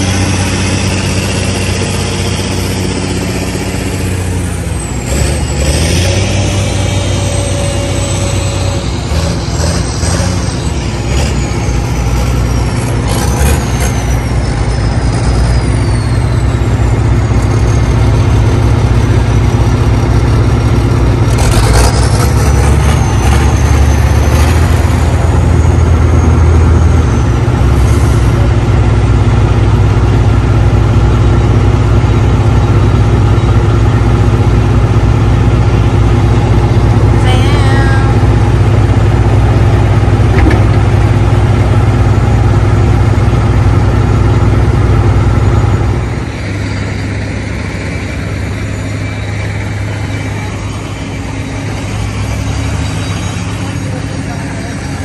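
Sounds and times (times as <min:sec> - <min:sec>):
high whine: 0:00.0 - 0:55.0
truck diesel engine droning: 0:00.0 - 0:55.0.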